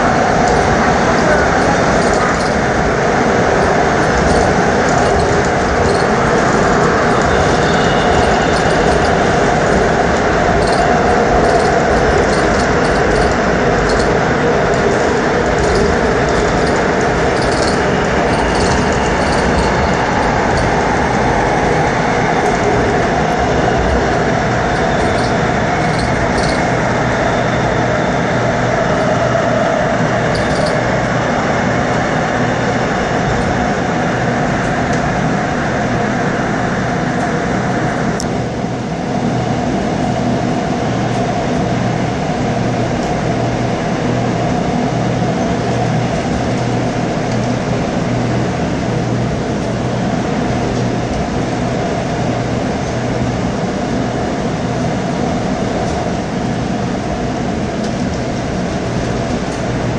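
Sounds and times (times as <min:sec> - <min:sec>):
train rumbling through tunnel: 0:00.0 - 0:59.9.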